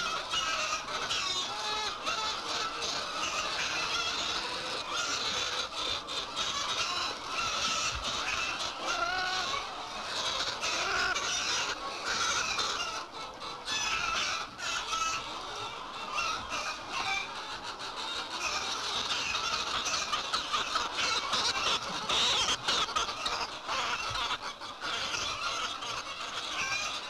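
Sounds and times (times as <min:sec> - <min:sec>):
chicks cheeping and clucking: 0:00.0 - 0:27.0.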